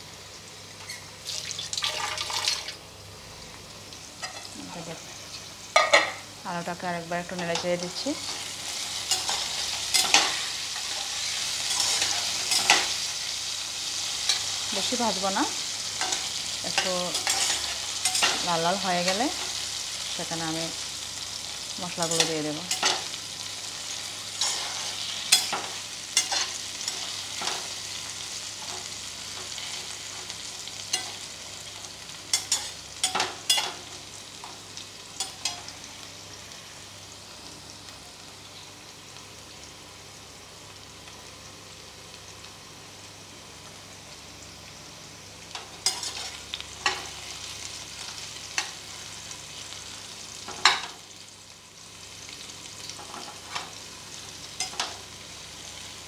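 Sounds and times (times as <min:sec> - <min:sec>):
potatoes sizzling in oil: 0:00.0 - 0:56.0.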